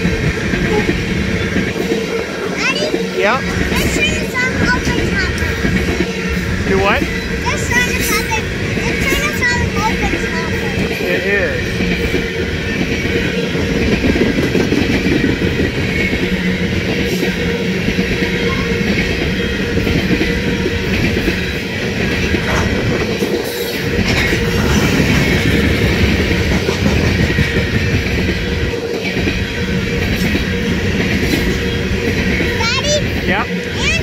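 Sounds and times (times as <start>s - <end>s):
steel wheels rumbling on rail: 0.0s - 34.0s
wheels clacking over rail joints: 0.0s - 34.0s.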